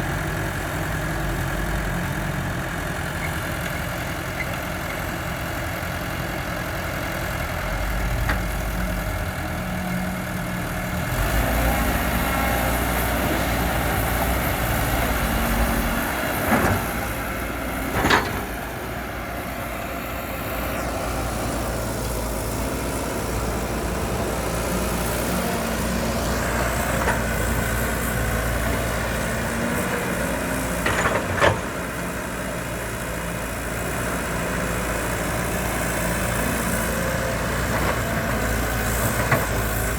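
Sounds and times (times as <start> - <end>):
heavy machinery engine droning: 0.0 - 39.9.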